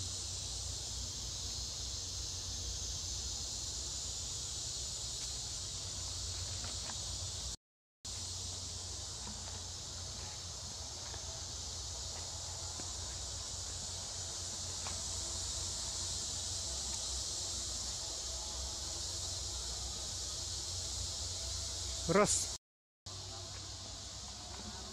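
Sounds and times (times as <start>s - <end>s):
insects chirring chorus: 0.0s - 24.9s.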